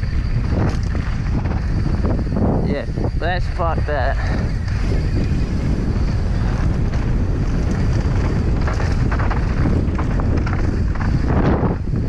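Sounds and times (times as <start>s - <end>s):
bike rattling: 0.0s - 12.0s
bike tyre noise on dirt: 0.0s - 12.0s
wind buffeting microphone: 0.0s - 12.0s.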